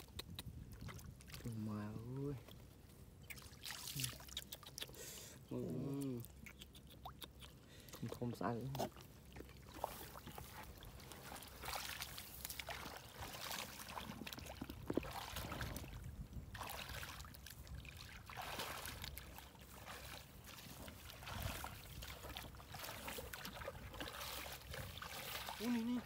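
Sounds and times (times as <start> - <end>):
muddy water sloshing: 0.0 - 26.0.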